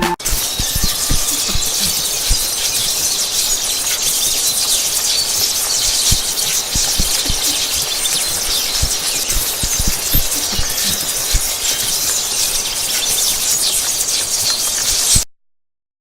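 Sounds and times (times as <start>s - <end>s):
electricity crackling hiss: 0.2s - 15.2s.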